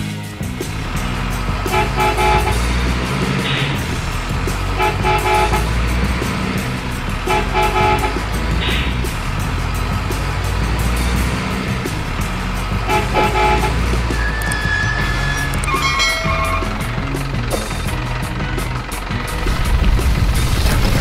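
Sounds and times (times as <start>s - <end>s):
truck engine rumble: 0.0s - 21.0s
truck horn blasts: 0.8s - 19.0s.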